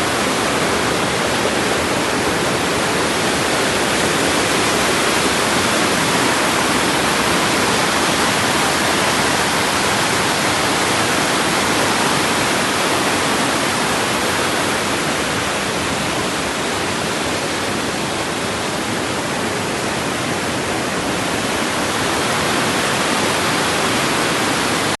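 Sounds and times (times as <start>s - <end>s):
rushing water hiss: 0.0s - 25.0s.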